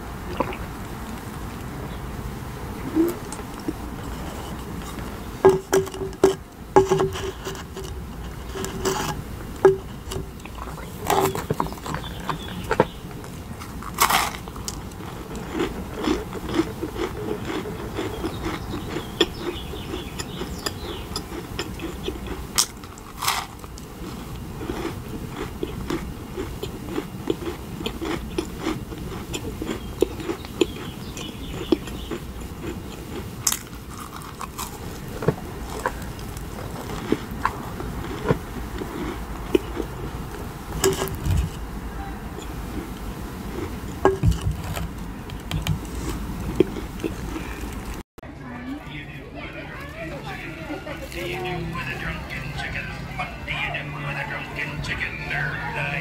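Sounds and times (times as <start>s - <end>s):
crunchy biting and chewing: 0.0s - 1.7s, 2.8s - 48.0s.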